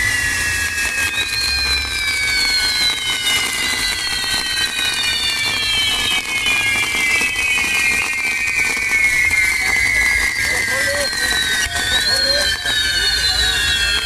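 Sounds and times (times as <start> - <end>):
crackle of burning sparks: 0.0 - 14.0
firework whistles falling in pitch: 0.0 - 14.0.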